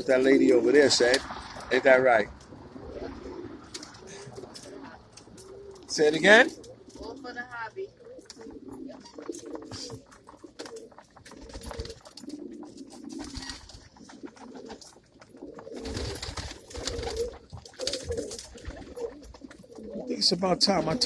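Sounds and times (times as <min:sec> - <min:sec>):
pigeons cooing: 0:00.0 - 0:01.3, 0:02.2 - 0:21.0.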